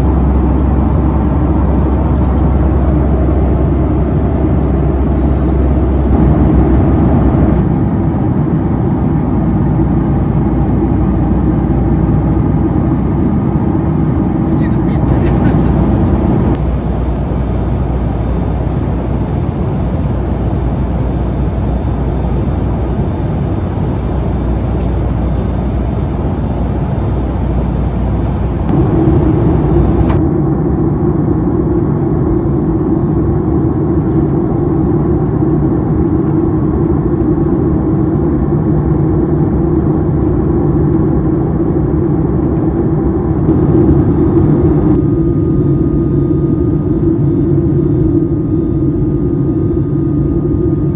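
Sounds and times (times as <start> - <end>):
jet engine and airflow noise: 0.0 - 50.9.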